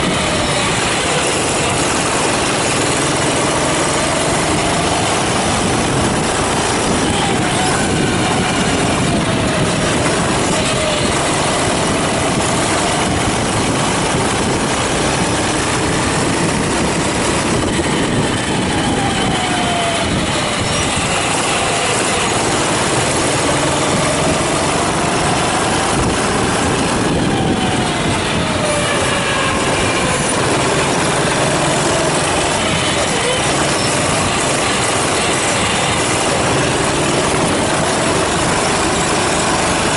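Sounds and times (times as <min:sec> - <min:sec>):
kart engine revving: 0:00.0 - 0:39.9
noisy drone: 0:00.0 - 0:39.9.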